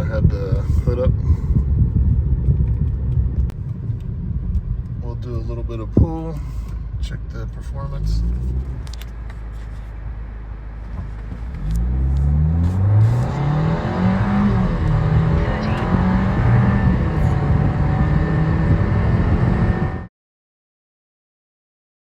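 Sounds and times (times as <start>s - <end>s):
car engine accelerating hard: 0.0s - 20.1s.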